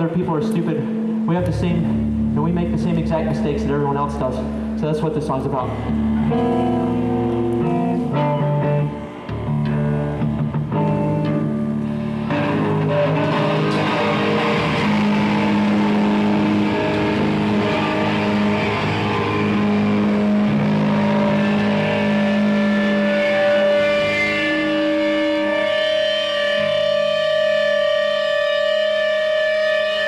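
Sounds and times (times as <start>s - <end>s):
droning electric guitars: 0.0s - 30.0s.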